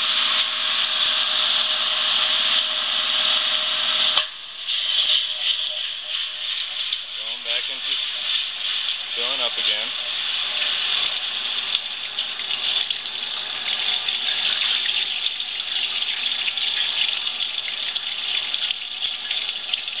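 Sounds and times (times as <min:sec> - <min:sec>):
water running into washing machine: 0:00.0 - 0:20.0.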